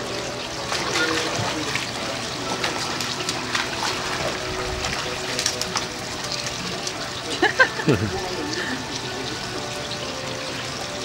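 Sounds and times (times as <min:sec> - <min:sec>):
penguins splashing: 0:00.0 - 0:11.0
water trickling: 0:00.0 - 0:11.0.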